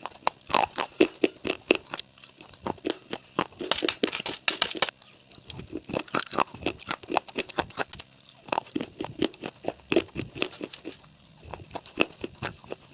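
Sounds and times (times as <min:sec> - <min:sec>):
crunchy chewing: 0:00.0 - 0:12.9.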